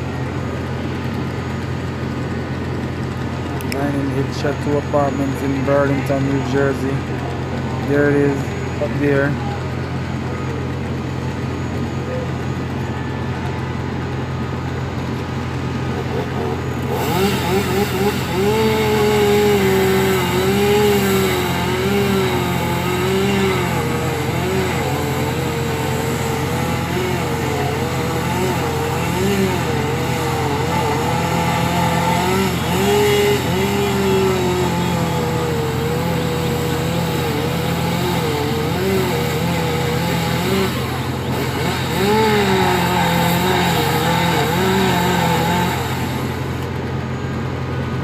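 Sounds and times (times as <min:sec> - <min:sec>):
vehicle engine running: 0:00.0 - 0:48.0.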